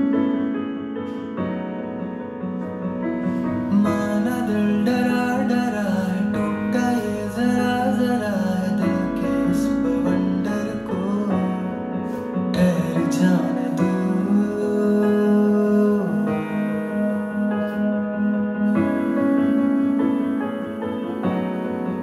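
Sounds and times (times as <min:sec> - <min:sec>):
soft piano chords: 0:00.0 - 0:22.0
person singing: 0:03.2 - 0:22.0.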